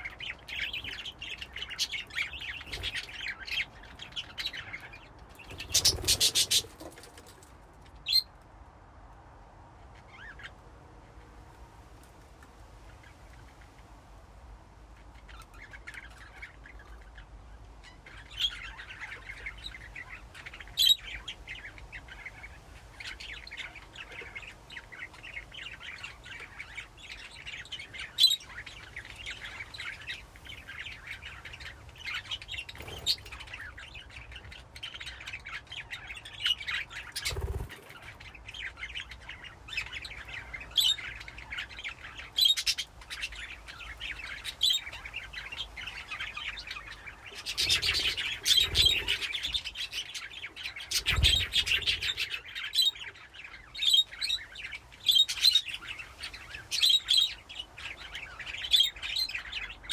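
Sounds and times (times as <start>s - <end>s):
budgerigars chattering and chirping: 0.0s - 7.4s, 15.2s - 59.9s.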